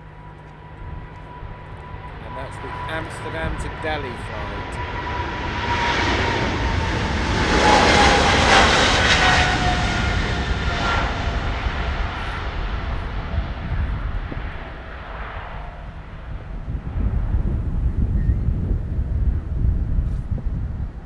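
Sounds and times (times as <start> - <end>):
jet airliner passing by: 0.0 - 21.0
jet fan whine: 0.0 - 21.0.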